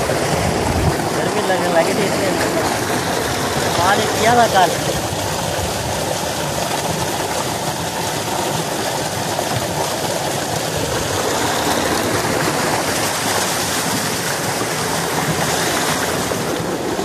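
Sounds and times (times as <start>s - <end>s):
water gushing from a pipe: 0.0s - 17.0s
water splashing into a tank: 0.0s - 17.0s.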